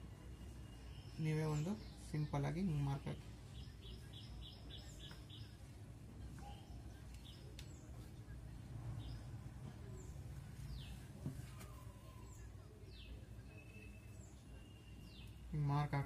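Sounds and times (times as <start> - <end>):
faint bird chirps: 0.0 - 16.0
low steady hum: 0.0 - 16.0.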